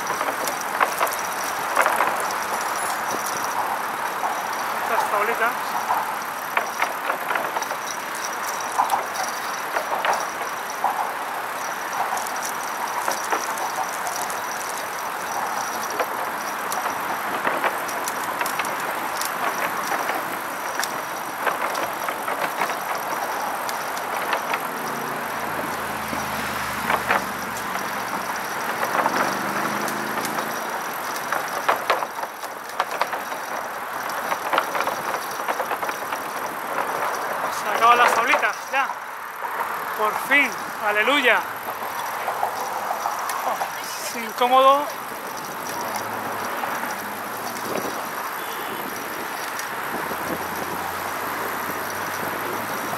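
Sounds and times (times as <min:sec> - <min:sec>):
bicycle tyres rolling on wooden planks: 0:00.0 - 0:52.9
boards clacking and rattling: 0:00.0 - 0:52.9.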